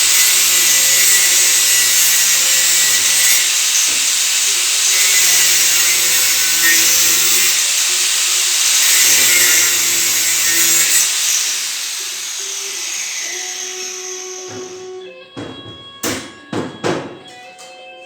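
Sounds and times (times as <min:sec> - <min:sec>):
power tool hissing: 0:00.0 - 0:15.1.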